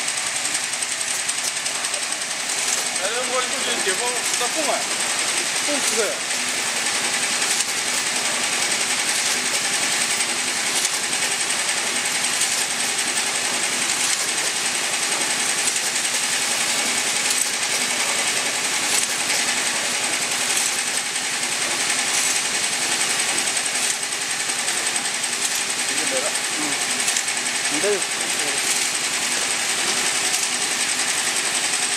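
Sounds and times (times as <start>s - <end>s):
machine clatter: 0.0s - 31.9s.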